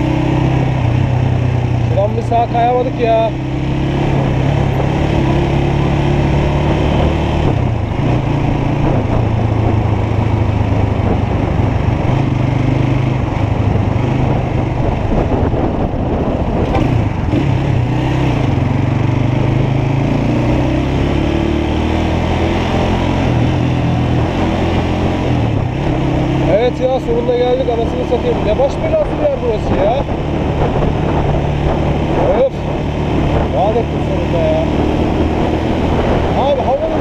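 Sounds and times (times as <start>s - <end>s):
motorcycle engine running: 0.0s - 37.0s
rush of riding noise: 0.0s - 37.0s.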